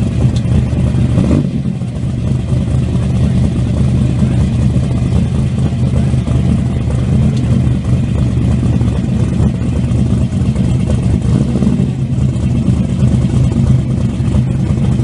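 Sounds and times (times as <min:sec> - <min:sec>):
car engine idling loud: 0:00.0 - 0:15.0.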